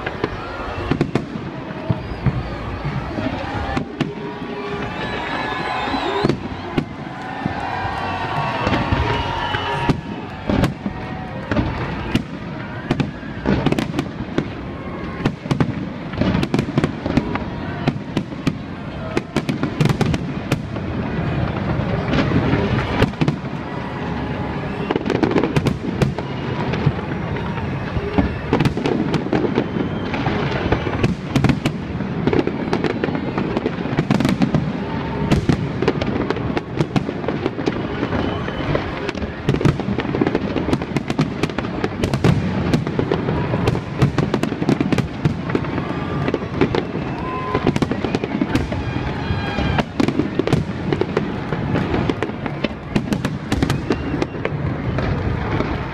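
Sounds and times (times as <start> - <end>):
fireworks bangs and crackles: 0.0 - 55.9.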